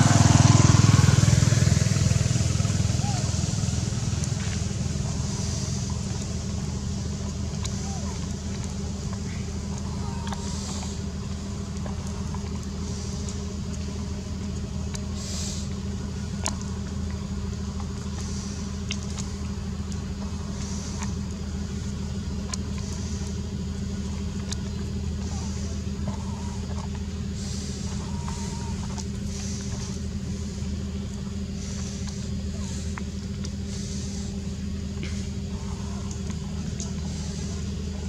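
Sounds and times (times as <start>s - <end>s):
low motor hum: 0.0s - 38.0s.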